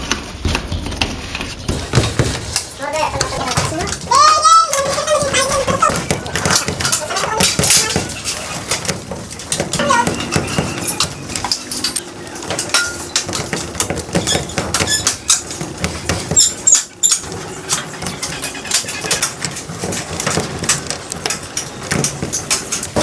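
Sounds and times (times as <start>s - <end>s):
wires clicking and squeaking: 0.0s - 23.0s.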